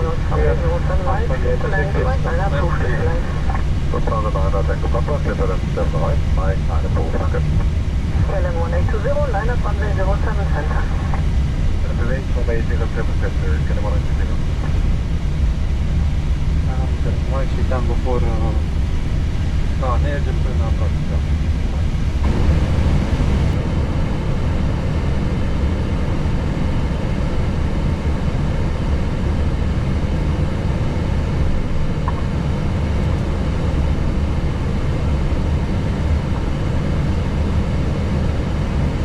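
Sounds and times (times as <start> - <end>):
aircraft engines idling: 0.0 - 39.0
cockpit ventilation hum: 0.0 - 39.0.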